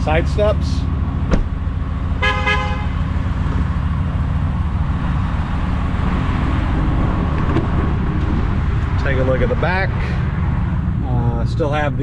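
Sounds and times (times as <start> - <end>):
engine idling rumble: 0.0 - 12.0.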